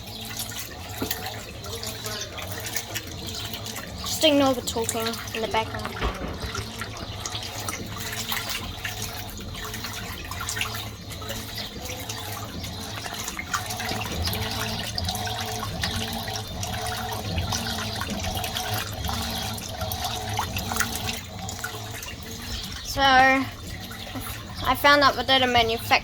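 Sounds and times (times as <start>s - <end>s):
washing machine hum: 0.0s - 26.0s
water swishing in washing machine: 0.0s - 26.0s.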